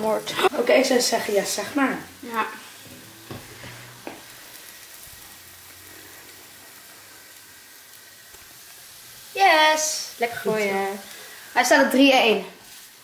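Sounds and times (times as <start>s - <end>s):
batter sizzling in frying pans: 0.0s - 13.0s.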